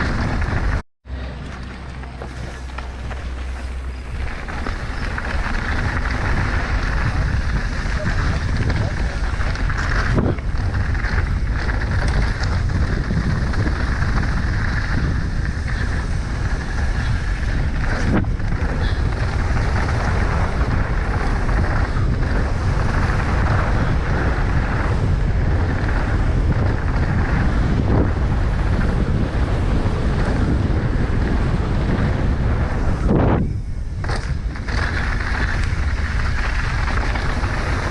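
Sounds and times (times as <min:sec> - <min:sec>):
bike tyre and frame noise: 0:00.0 - 0:37.9
wind on microphone: 0:00.0 - 0:37.9.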